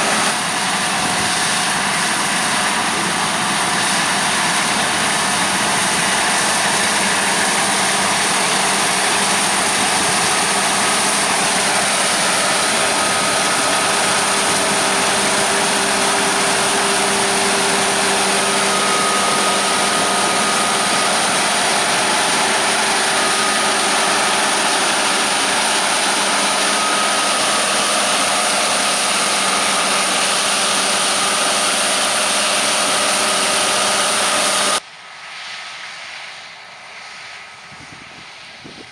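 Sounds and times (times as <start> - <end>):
harvest machinery running: 0.0 - 34.8.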